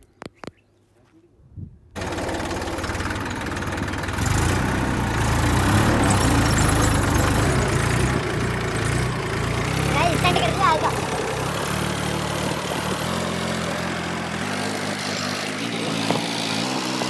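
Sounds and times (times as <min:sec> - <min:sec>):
tractor engine running: 0:02.0 - 0:17.0.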